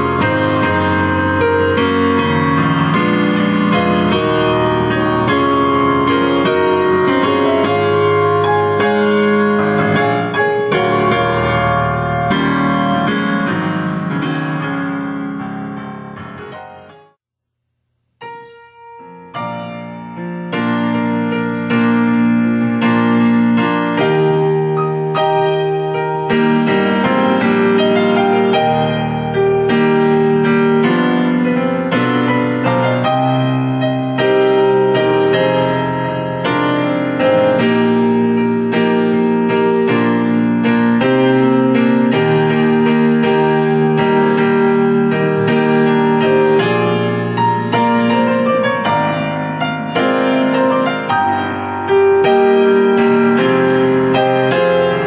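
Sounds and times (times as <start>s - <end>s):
slow solo piano chords: 0.0s - 17.2s, 18.2s - 55.0s.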